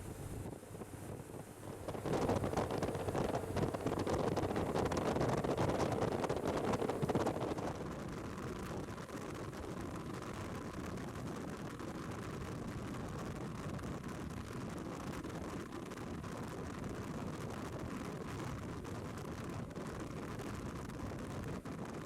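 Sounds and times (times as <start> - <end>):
motorcycle road noise: 0.0 - 22.0
wind rush: 0.0 - 22.0.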